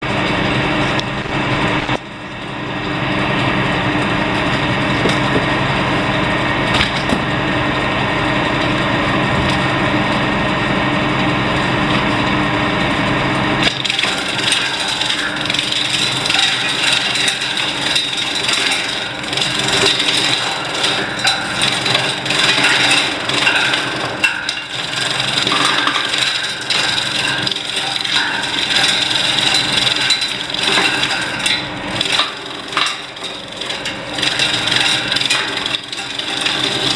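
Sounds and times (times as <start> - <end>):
wood-shaving machine humming: 0.0 - 36.9.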